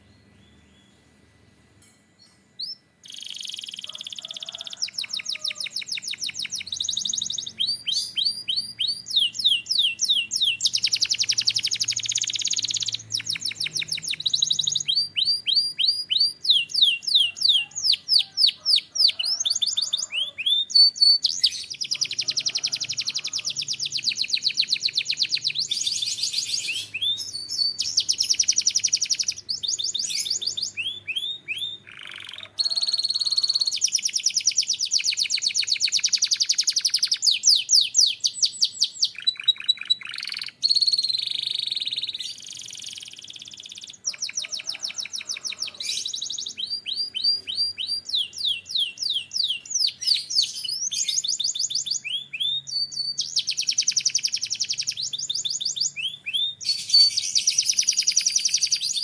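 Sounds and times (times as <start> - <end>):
canary singing trills: 2.2 - 59.0.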